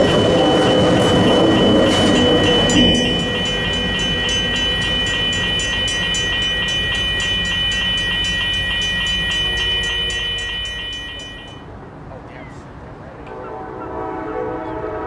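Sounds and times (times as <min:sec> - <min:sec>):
passenger train rolling past: 0:00.0 - 0:12.1.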